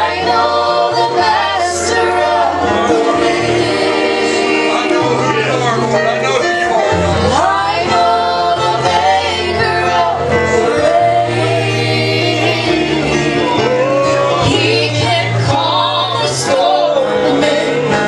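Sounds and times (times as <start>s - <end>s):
gospel singing: 0.0s - 18.0s
steady bass line: 0.0s - 18.0s.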